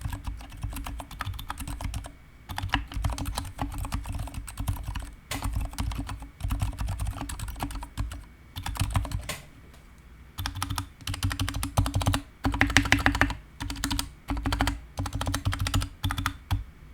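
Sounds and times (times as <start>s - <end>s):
mechanical keyboard typing: 0.0s - 9.4s, 10.4s - 16.6s.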